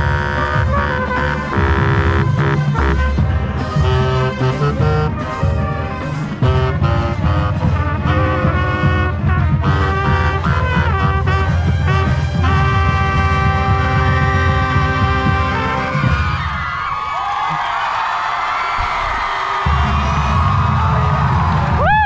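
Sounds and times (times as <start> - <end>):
steady drum beat: 0.0 - 16.6, 19.6 - 22.0
marching band brass: 0.0 - 17.9, 19.6 - 22.0.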